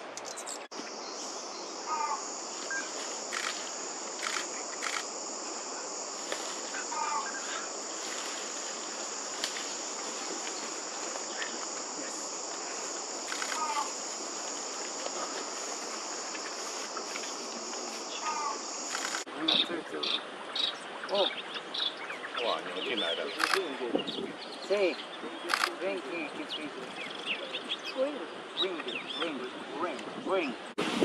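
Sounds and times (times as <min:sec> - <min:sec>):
high-pitched insect chorus: 0:00.2 - 0:31.0.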